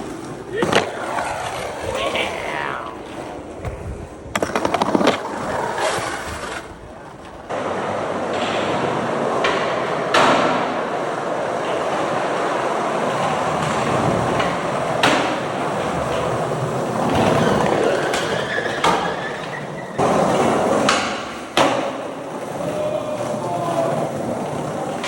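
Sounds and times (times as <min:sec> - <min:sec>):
skateboard clacking on ground: 0:00.0 - 0:25.0
skateboard wheels rumbling: 0:00.0 - 0:25.0
skateboard clicks: 0:03.0 - 0:25.0.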